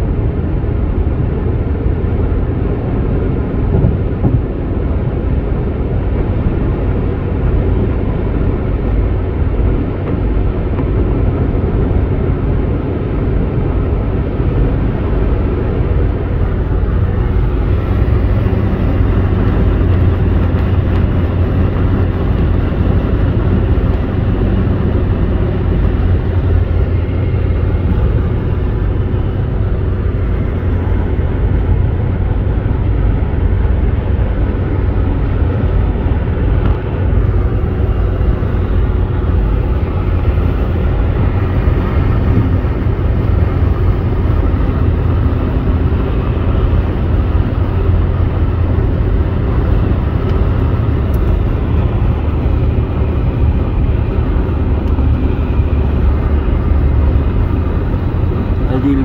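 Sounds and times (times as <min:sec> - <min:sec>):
car road noise drone: 0:00.0 - 0:59.0.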